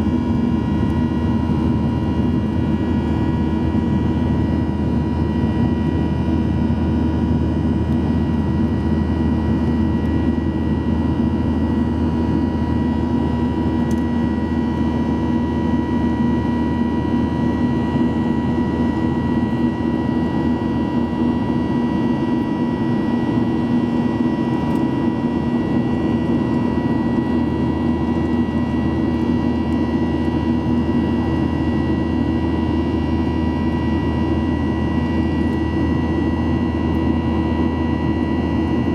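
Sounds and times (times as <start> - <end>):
constant engine whine: 0.0 - 38.9
jet engine drone in cabin: 0.0 - 38.9.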